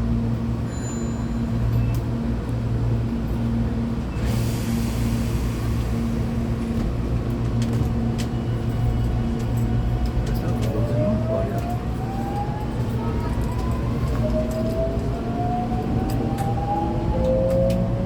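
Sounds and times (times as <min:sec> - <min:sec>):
electric train humming: 0:02.7 - 0:18.0.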